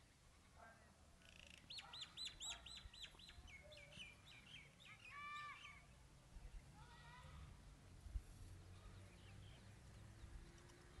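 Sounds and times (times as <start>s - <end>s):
songbird chirping: 1.2s - 7.2s, 7.8s - 11.0s.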